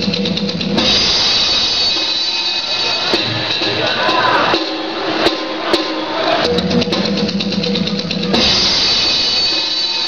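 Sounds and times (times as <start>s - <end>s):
loud drum strikes: 0.0s - 2.3s, 3.0s - 10.0s
dance music with heavy drumming: 0.0s - 10.0s.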